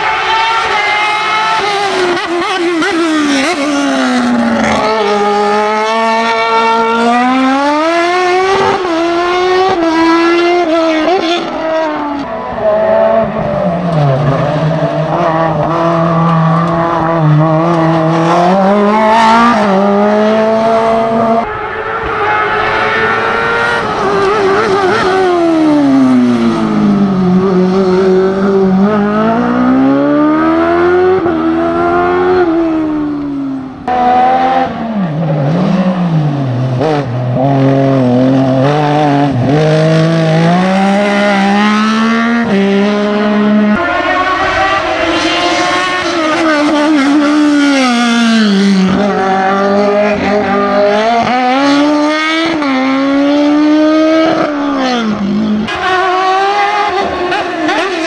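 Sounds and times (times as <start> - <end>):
racing car engines revving: 0.0 - 58.0.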